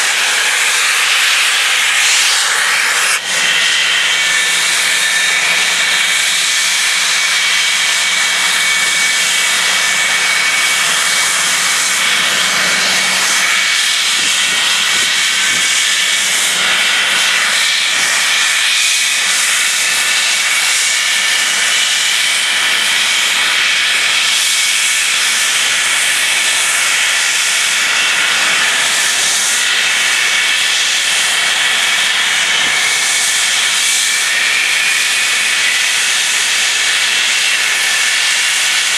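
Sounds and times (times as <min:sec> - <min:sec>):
jet engines idling with high whine: 0:00.0 - 0:38.9.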